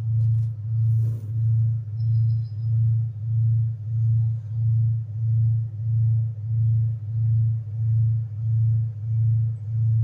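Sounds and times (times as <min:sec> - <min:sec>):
low pulsing drone: 0:00.0 - 0:10.0.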